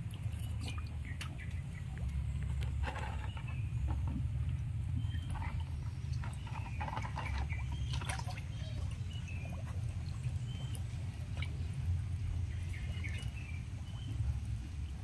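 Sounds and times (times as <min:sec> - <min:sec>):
water splashing and slapping: 0:00.0 - 0:15.0.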